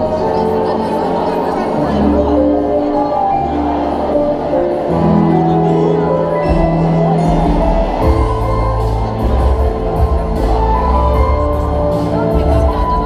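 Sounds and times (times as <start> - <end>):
piano duet: 0.0 - 13.0.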